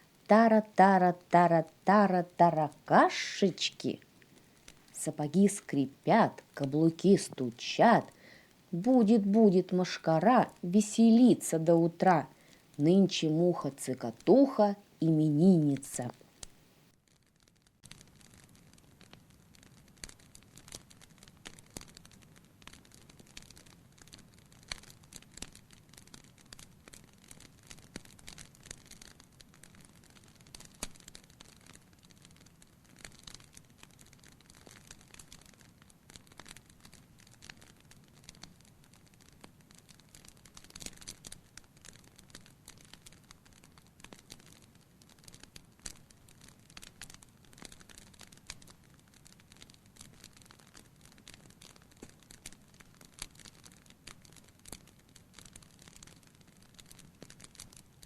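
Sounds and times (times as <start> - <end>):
wood fire crackling: 0.0 - 16.9, 17.5 - 58.0.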